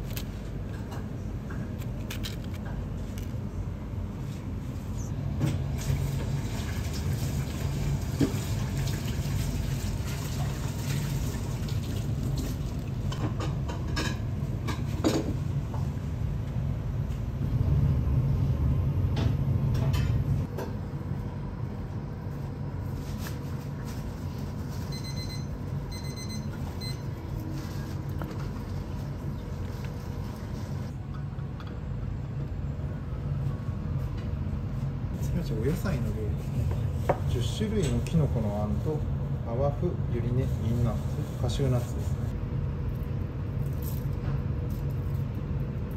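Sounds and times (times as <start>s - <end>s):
steady low hum: 0.0s - 6.6s, 11.9s - 45.9s.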